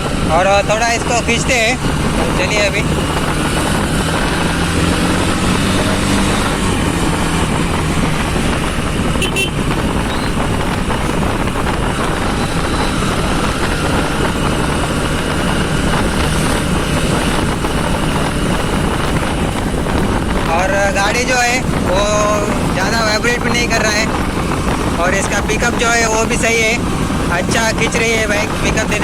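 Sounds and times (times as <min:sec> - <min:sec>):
motorcycle engine accelerating: 0:00.0 - 0:29.0
wind rush over microphone: 0:00.0 - 0:29.0.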